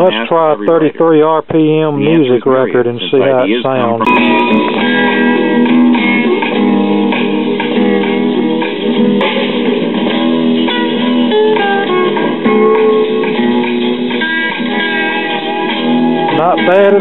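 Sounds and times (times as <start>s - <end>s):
guitar-led music from record player: 0.0s - 17.0s.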